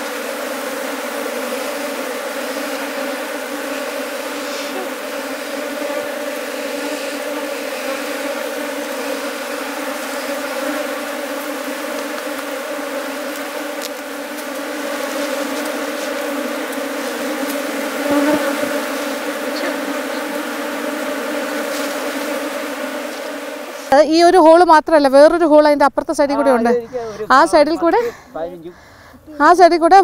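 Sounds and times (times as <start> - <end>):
honey bees buzzing: 0.0 - 30.0.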